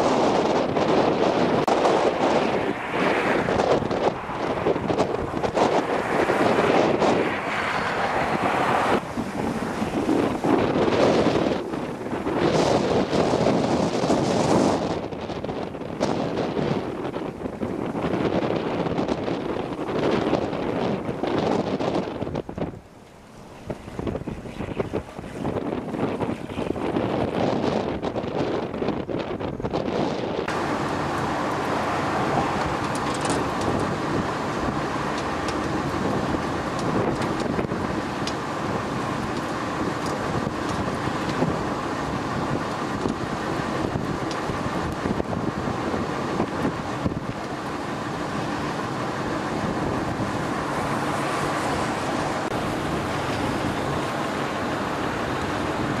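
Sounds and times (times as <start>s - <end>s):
strong wind on microphone: 0.0s - 56.0s
traffic on snowy roads: 0.0s - 56.0s.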